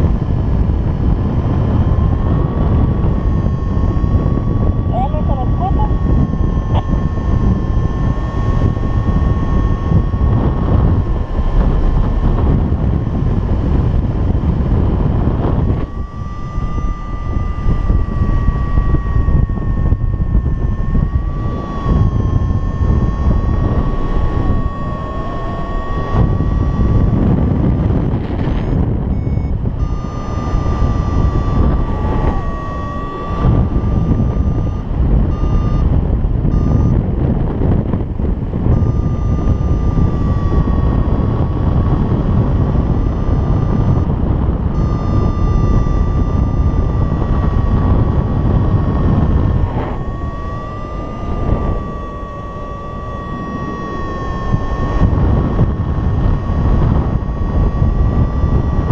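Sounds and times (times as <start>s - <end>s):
high electronic tone: 0.0s - 58.9s
wind over microphone: 0.0s - 58.9s.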